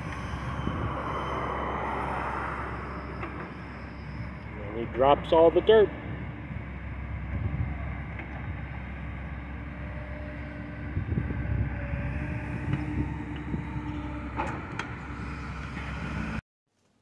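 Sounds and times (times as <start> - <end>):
excavator diesel engine rumbling: 0.0 - 16.4.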